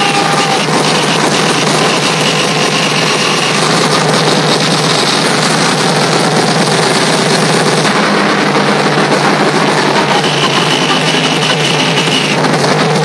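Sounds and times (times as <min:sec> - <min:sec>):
loud electronic dance music: 0:00.0 - 0:13.0.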